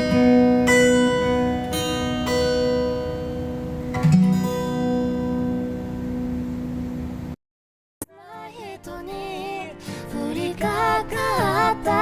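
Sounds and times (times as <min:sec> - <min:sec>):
pop song guitar chords: 0:00.0 - 0:06.9, 0:08.0 - 0:12.0.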